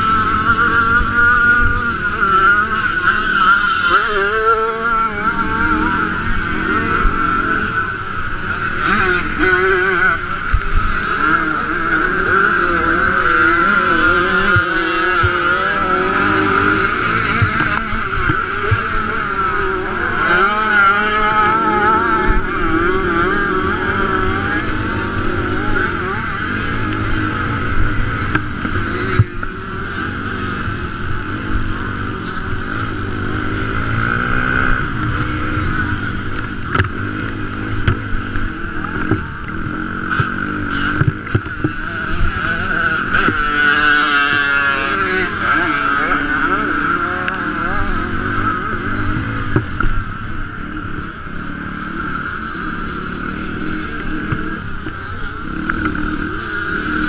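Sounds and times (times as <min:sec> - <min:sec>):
motocross bike engine revving: 0:00.0 - 0:57.0
other motorbike engines: 0:00.0 - 0:57.0.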